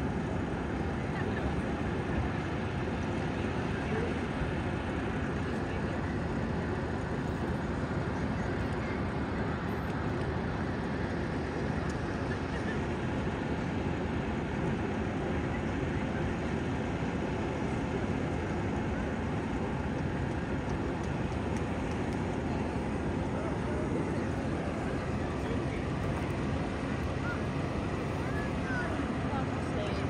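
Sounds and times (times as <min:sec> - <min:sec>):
fire engine pump rumbling: 0:00.0 - 0:30.0.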